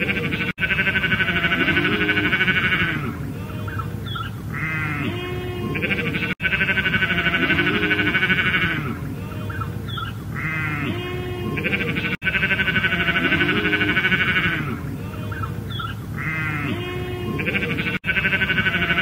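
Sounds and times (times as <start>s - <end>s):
sheep bleating: 0.0s - 19.0s.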